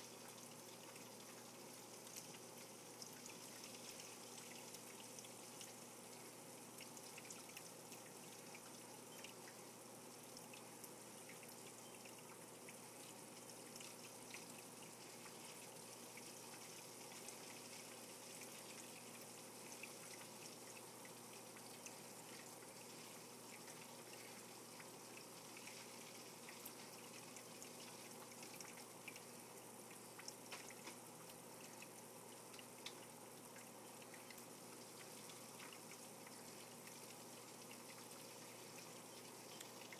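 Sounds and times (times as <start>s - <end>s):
aquarium water trickling: 0.0s - 39.9s
low steady hum: 0.0s - 39.9s
small water drips: 0.0s - 39.9s.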